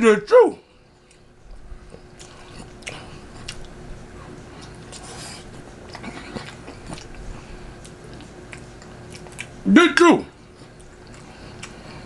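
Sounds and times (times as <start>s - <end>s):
person chewing food: 0.8s - 9.6s, 10.4s - 12.0s.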